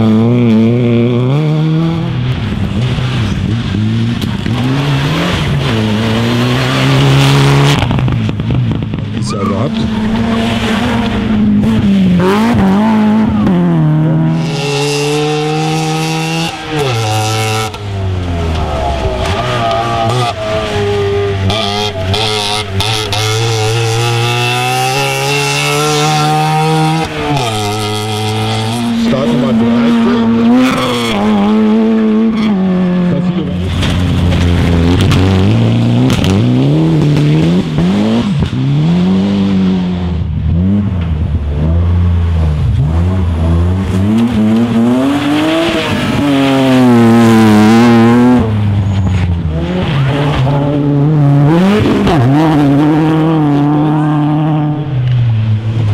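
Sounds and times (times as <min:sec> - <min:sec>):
rally car engine approaching: 0:00.0 - 0:55.9.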